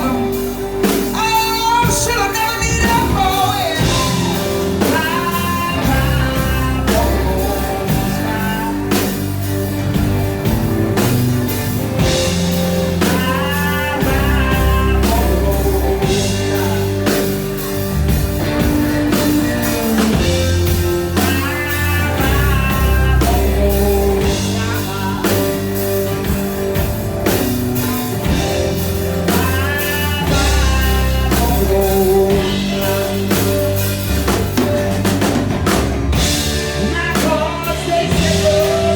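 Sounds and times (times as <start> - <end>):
rock song with vocals and band: 0.0 - 38.9.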